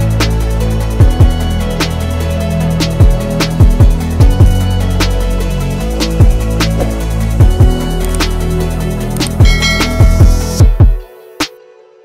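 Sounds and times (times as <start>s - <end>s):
electronic music with a beat: 0.0s - 11.6s.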